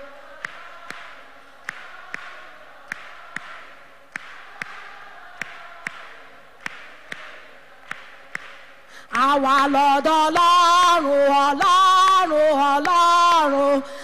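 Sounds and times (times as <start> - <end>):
rhythmic handclapping: 0.0 - 13.8.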